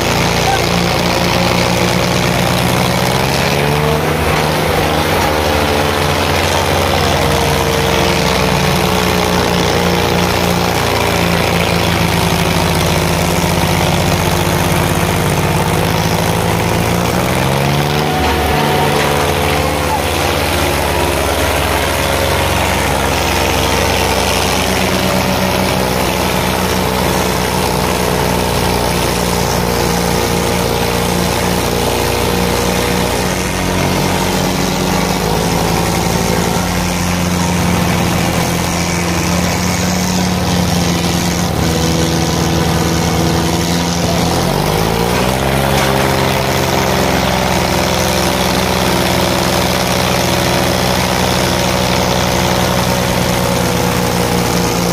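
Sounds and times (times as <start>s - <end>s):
diesel tractor engines running: 0.0s - 54.9s.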